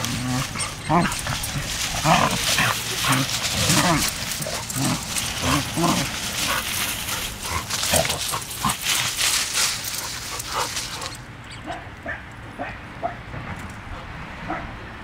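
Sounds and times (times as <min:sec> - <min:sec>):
dogs yipping and whimpering: 0:00.0 - 0:13.2.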